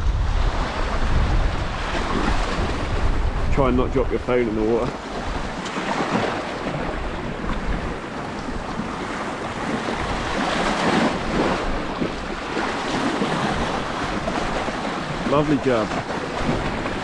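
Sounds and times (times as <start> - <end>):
waves splashing over rocks: 0.0 - 17.0
wind buffeting microphone: 0.0 - 17.0.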